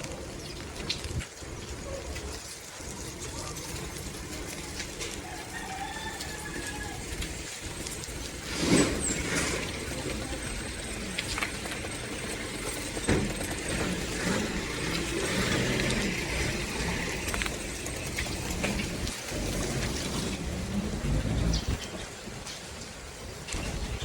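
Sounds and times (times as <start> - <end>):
bicycle rolling and rattling: 0.0 - 24.0.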